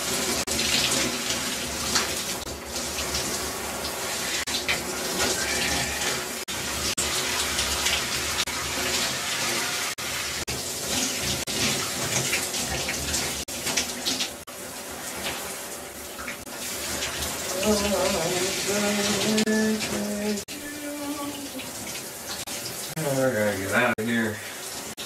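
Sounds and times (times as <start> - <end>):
running water hiss: 0.0 - 25.0.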